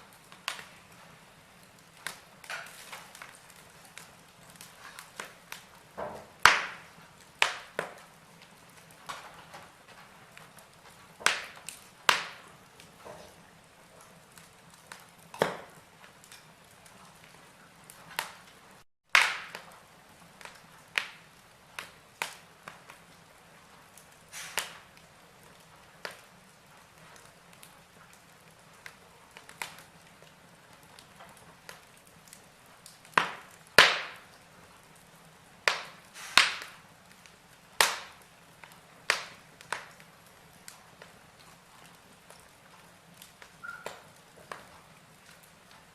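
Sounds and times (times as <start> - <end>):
soft steady hiss: 0.0 - 45.9
wood fire crackling and popping: 0.0 - 45.9.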